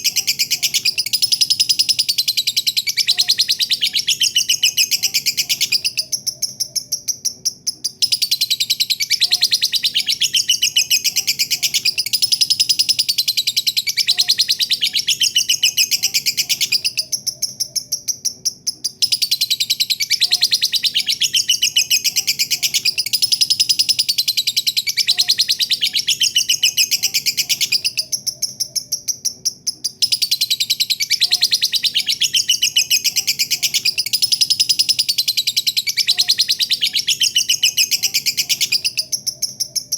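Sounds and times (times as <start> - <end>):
lovebird chattering song: 0.0 - 39.9.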